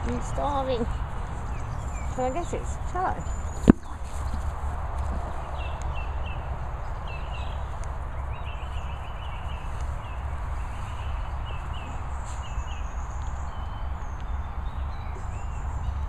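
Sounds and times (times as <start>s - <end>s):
small birds chirping: 0.0s - 16.0s
wind rumbling over microphone: 0.0s - 16.0s.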